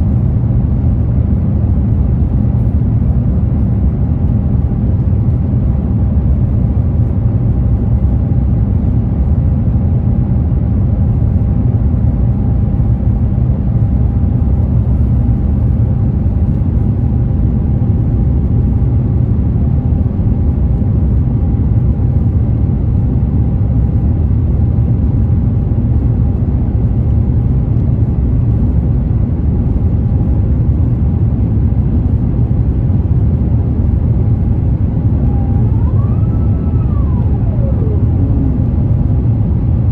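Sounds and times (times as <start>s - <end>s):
faint steady whine: 0.0s - 39.9s
jet engine low rumble: 0.0s - 39.9s.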